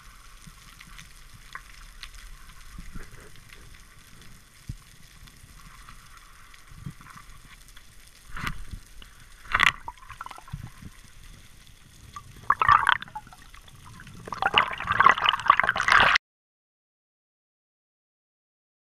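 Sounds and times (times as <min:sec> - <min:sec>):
underwater bubbling and rushing: 0:00.0 - 0:16.2.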